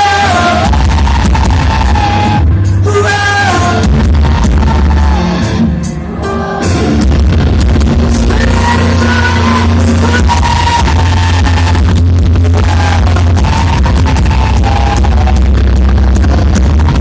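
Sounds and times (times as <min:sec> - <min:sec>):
loud music with heavy bass: 0:00.0 - 0:17.0.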